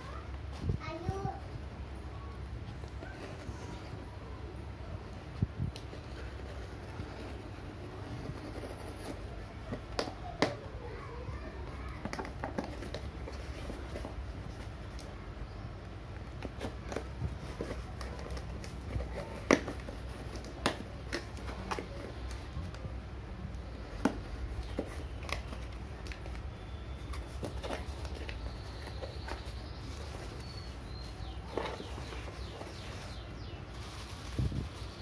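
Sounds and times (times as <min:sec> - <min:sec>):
cardboard and tape rustling: 0:05.0 - 0:15.3, 0:16.0 - 0:35.0.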